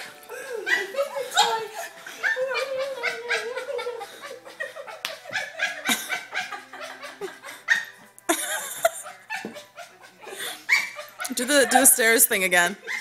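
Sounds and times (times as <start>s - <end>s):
people laughing: 0.3s - 13.0s.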